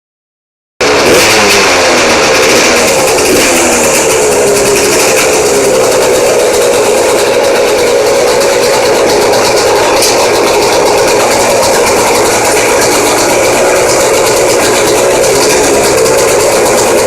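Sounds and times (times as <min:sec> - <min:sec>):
dirt bike engine idling: 0:00.8 - 0:17.0.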